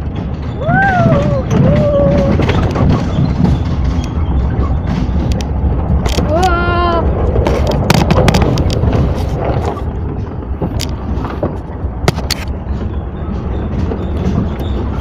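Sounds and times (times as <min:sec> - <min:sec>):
sharp clicks and knocks: 0:00.0 - 0:06.5, 0:07.2 - 0:15.0
moving vehicle rumble: 0:00.0 - 0:15.0.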